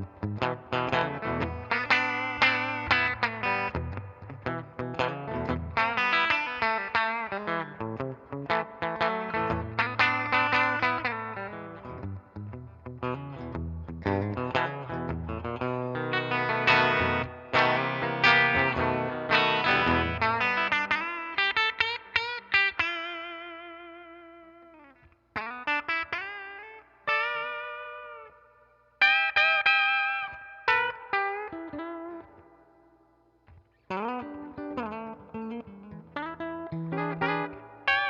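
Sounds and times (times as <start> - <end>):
clean electric guitar playing: 0.0 - 38.0.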